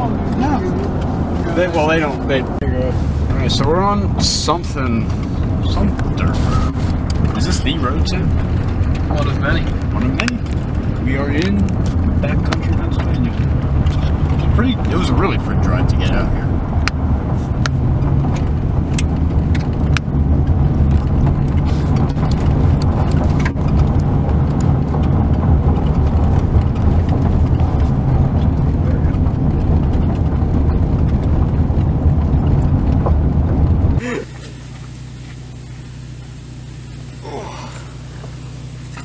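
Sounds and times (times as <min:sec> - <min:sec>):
vehicle engine and tyres rumbling: 0:00.0 - 0:39.0
rattles: 0:03.2 - 0:36.6
gravel clicks and knocks: 0:03.3 - 0:36.4.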